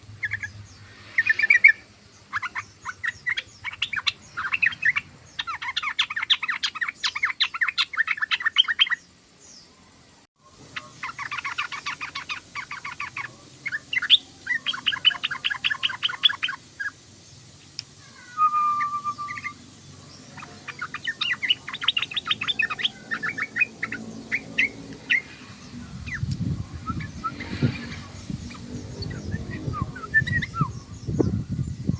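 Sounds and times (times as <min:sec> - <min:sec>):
bird chattering: 0:00.1 - 0:09.0, 0:10.6 - 0:17.0, 0:18.0 - 0:31.5.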